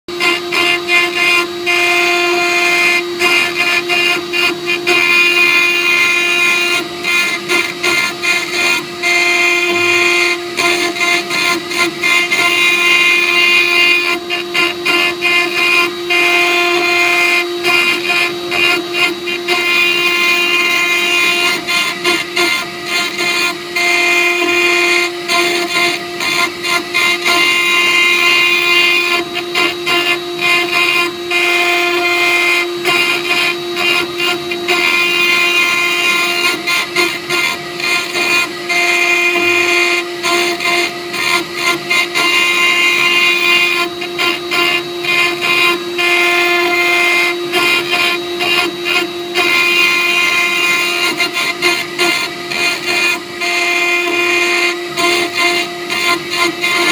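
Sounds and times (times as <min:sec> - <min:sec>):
router spindle high whine: 0:00.1 - 0:56.9.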